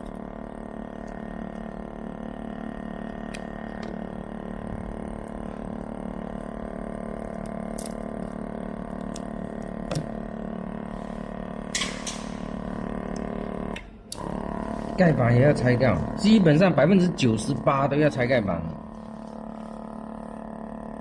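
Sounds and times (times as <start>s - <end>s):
electrical machine hum: 0.0s - 21.0s.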